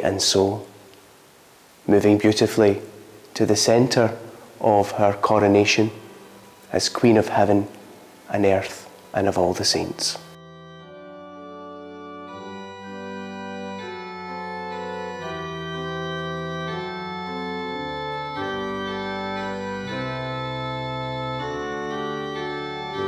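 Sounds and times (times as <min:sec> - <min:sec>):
slow organ music: 0:00.0 - 0:23.0.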